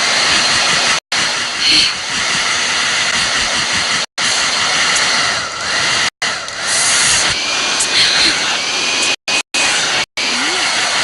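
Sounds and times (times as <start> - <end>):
loud rushing hiss: 0.0 - 11.0.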